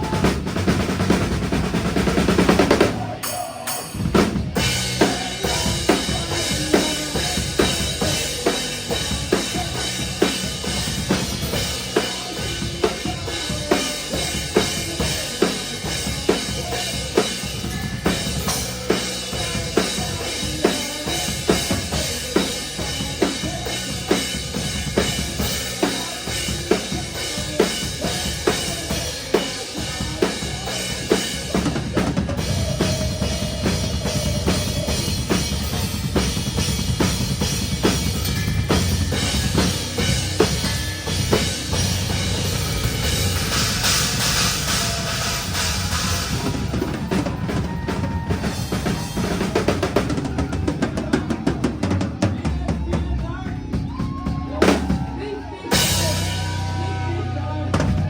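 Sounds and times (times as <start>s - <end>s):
metal band music: 0.0s - 58.0s.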